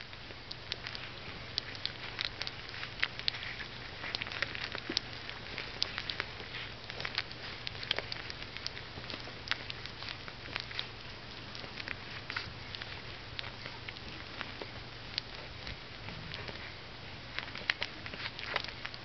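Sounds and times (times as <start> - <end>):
puppies suckling smacking clicks: 0.0 - 19.0.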